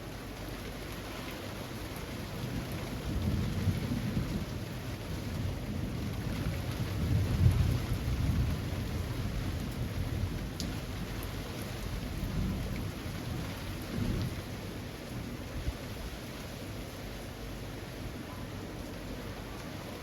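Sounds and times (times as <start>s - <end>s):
rain falling on leafy trees: 0.0s - 20.0s.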